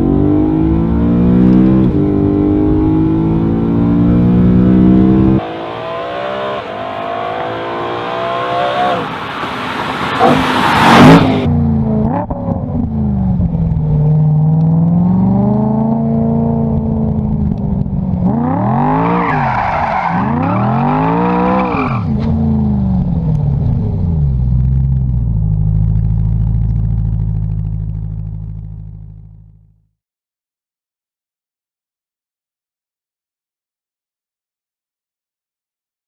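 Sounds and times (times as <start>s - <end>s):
car engine revving: 0.0s - 29.4s.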